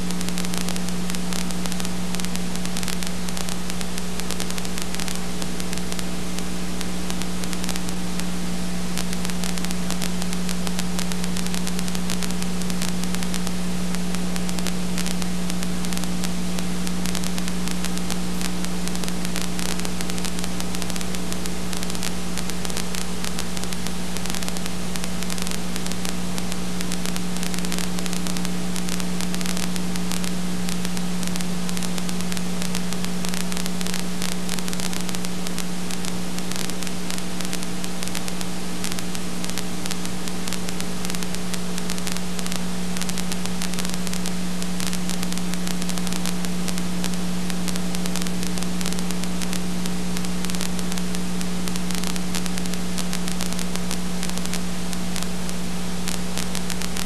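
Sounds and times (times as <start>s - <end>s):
electrical hum: 0.0s - 57.0s
steady hiss: 0.0s - 57.0s.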